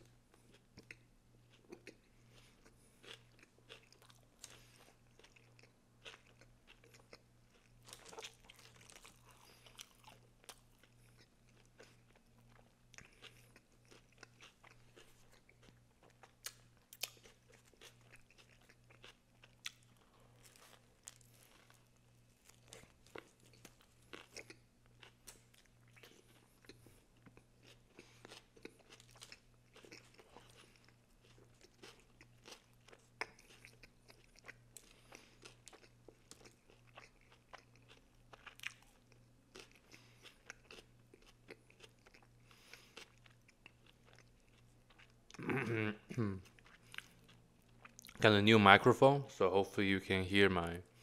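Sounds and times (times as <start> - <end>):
chewing crunchy sandwich: 0.0 - 48.4
faint low hum: 0.0 - 51.0.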